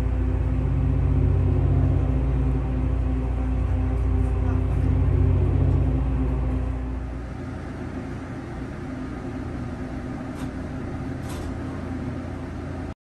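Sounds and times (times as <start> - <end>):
train passing rumble: 0.0 - 12.9
low hum inside train car: 0.0 - 13.0.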